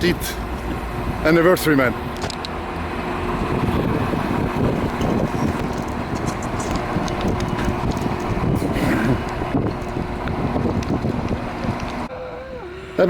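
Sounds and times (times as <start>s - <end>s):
diesel train engine rumbling: 0.0s - 13.0s.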